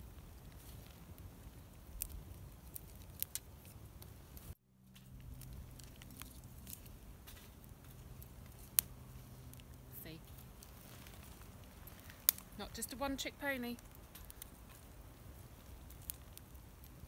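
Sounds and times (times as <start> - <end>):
sharp clicks and crackles: 0.1 - 17.0.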